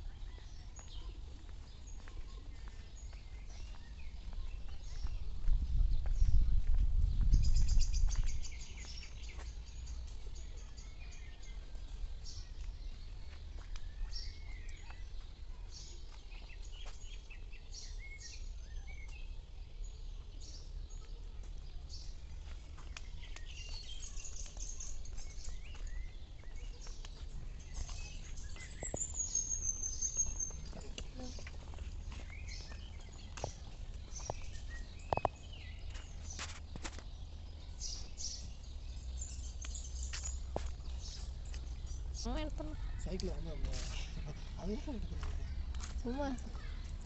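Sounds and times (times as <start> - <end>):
birds chirping and calling: 0.0 - 47.0.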